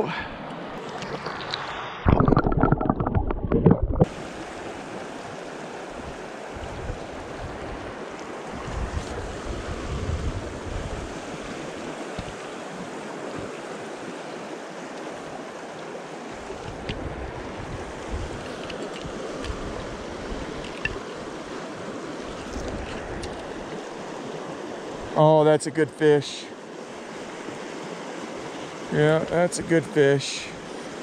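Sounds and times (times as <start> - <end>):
flowing river water: 0.0 - 31.0.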